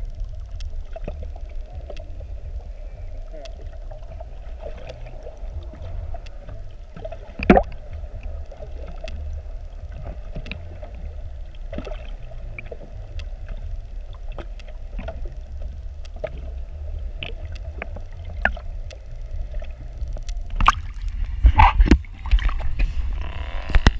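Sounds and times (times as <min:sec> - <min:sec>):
faint hum: 0:00.0 - 0:23.9
low underwater rumble: 0:00.0 - 0:23.9
water splashing and gurgling: 0:00.0 - 0:23.9.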